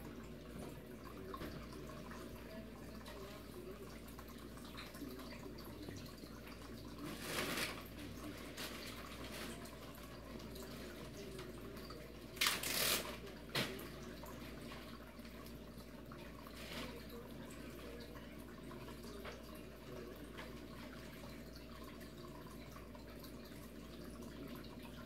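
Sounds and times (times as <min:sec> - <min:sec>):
water trickling and dripping: 0:00.0 - 0:25.0.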